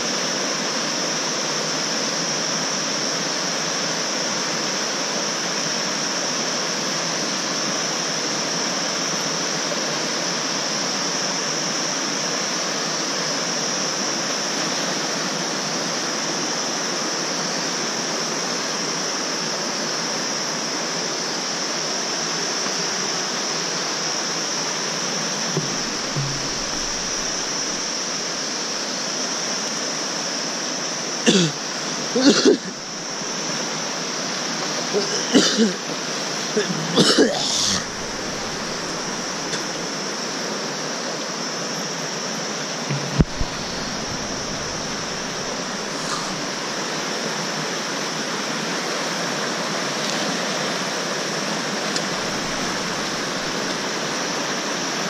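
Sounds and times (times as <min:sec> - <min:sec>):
river rapids rushing over rocks: 0:00.0 - 0:55.0.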